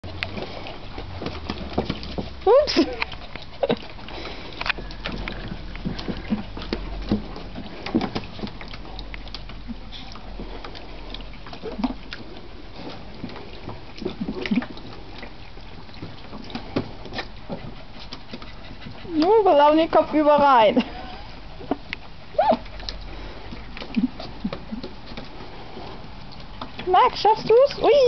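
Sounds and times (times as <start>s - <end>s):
paws splashing in shallow water: 0.0s - 28.0s.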